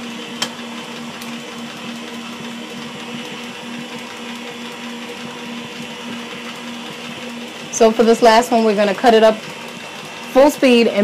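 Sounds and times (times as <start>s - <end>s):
stand mixer motor hum: 0.0s - 11.0s.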